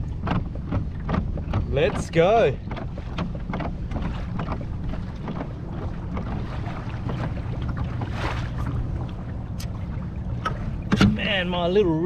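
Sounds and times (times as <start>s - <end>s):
water moving against kayak: 0.0s - 12.0s
wind buffeting microphone: 0.0s - 12.0s.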